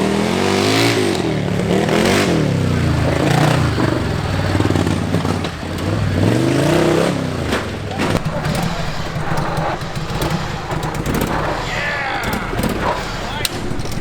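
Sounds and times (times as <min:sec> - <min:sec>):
lawn tractor engine revving: 0:00.0 - 0:14.0
mechanical clatter: 0:01.0 - 0:14.0.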